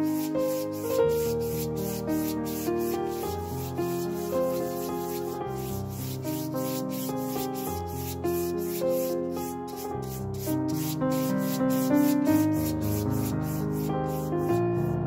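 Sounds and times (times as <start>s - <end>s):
bristle brush scrubbing canvas: 0.0s - 15.0s.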